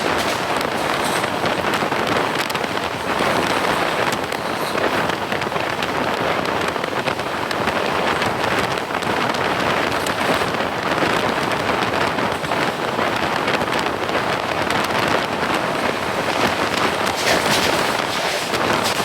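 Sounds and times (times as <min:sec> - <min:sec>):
heavy rain: 0:00.0 - 0:19.0
moving train rushing: 0:00.0 - 0:19.0
wind: 0:00.0 - 0:19.0.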